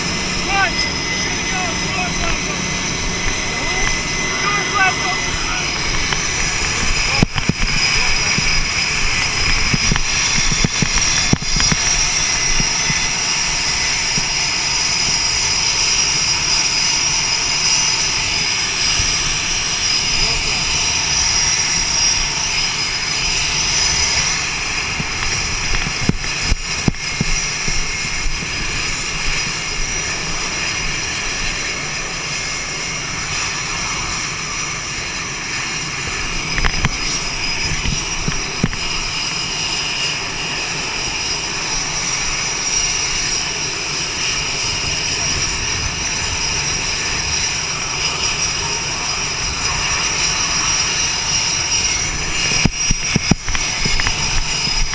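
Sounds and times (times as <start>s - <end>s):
jet engines rushing with high whine: 0.0s - 54.9s.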